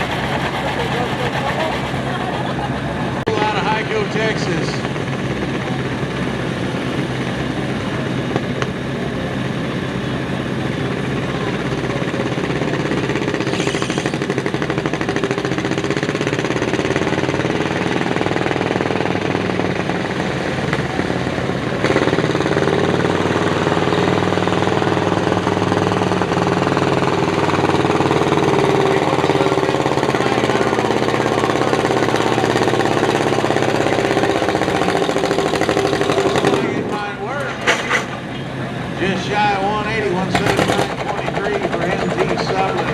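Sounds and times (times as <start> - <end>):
tractor engine running hard: 0.0 - 42.9.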